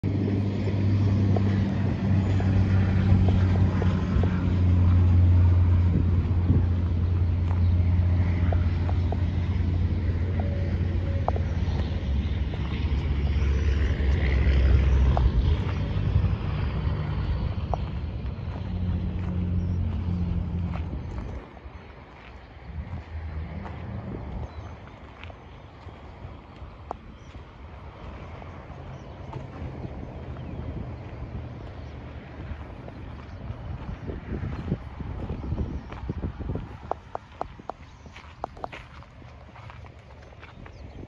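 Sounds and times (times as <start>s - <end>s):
low engine hum: 0.0s - 41.0s.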